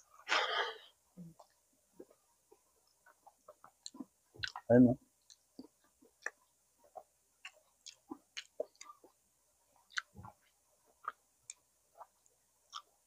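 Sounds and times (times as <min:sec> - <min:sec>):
chewing mouth sounds: 0:01.4 - 0:09.2, 0:09.8 - 0:12.9.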